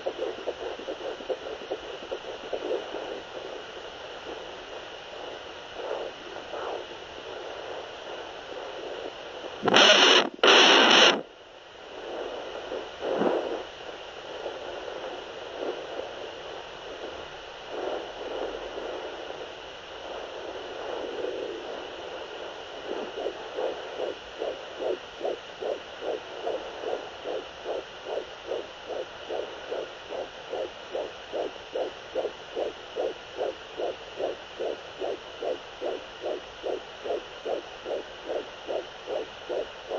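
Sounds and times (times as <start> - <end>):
fetal heartbeat whooshing pulse: 0.0 - 11.2, 11.9 - 39.9
steady hiss: 0.0 - 39.9.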